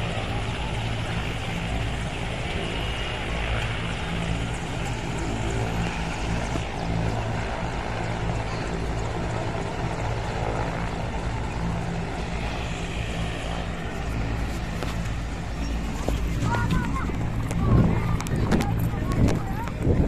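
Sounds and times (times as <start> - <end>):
helicopter rotor and engine drone: 0.0 - 20.0.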